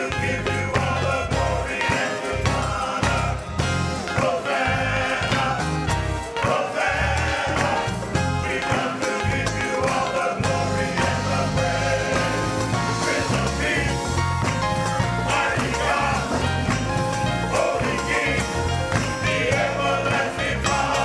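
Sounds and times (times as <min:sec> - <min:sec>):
gospel choir with band: 0:00.0 - 0:21.0.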